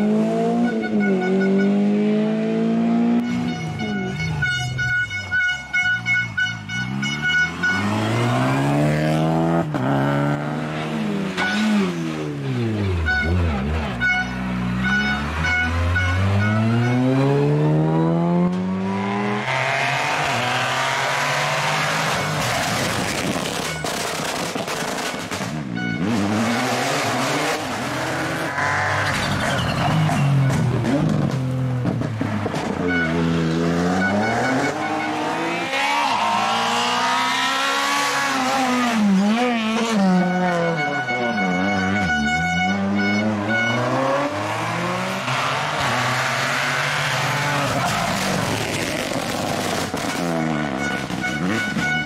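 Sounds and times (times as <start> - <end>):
distant rally car engine: 0.0 - 52.0
rally car engine accelerating: 7.2 - 52.0.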